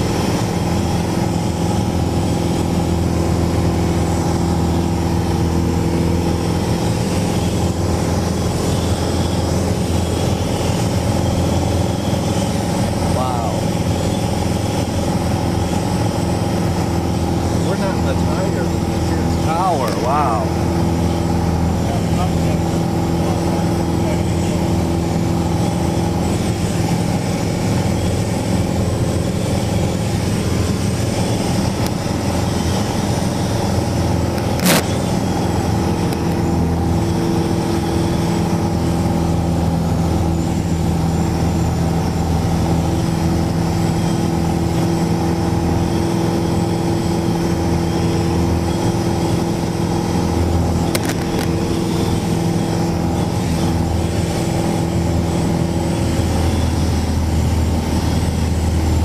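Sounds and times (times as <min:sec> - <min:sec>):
plane engine and propeller drone: 0:00.0 - 0:59.0.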